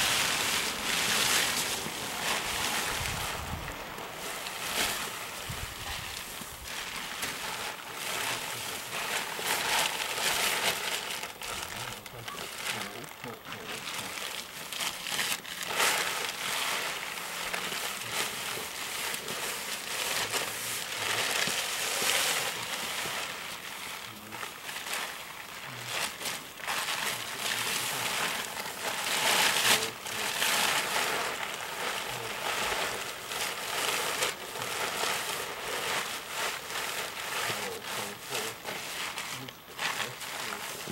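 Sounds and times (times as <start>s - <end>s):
plastic sheet crinkling and rustling: 0.0s - 40.9s.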